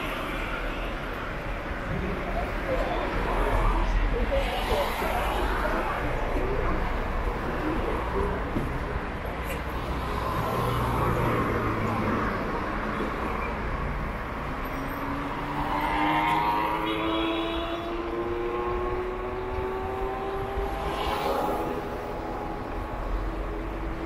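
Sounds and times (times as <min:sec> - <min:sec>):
road vehicle running: 0:00.0 - 0:24.0.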